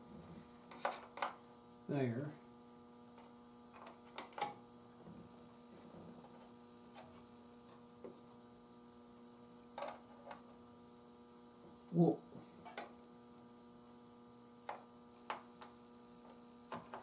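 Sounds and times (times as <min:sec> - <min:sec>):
faint mains hum: 0:00.0 - 0:17.0.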